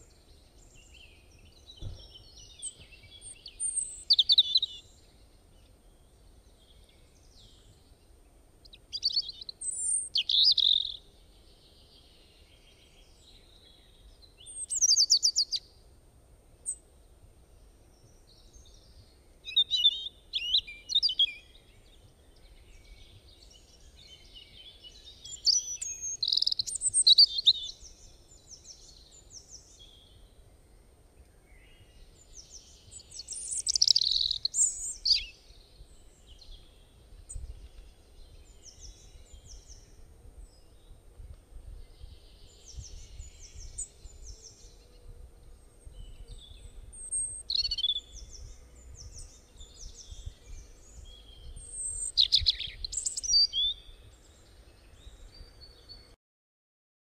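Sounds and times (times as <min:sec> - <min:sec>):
birds chirping and singing: 0:00.0 - 0:07.9, 0:08.7 - 0:15.6, 0:18.0 - 0:30.4, 0:31.4 - 0:41.0, 0:41.7 - 0:56.1.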